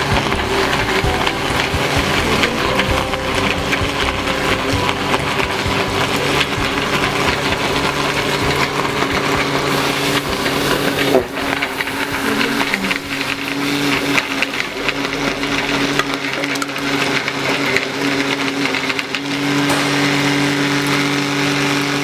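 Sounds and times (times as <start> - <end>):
crackling and clicking: 0.0 - 22.0
electric motor hum: 0.0 - 22.0.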